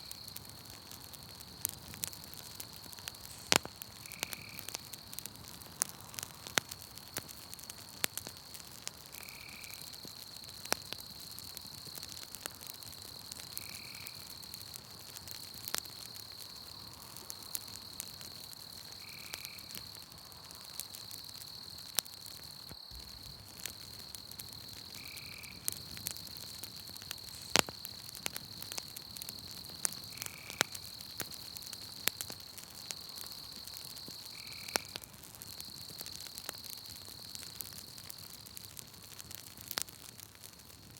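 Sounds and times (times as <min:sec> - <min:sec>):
night insects trilling: 0:00.0 - 0:40.2
campfire crackling: 0:00.0 - 0:40.9.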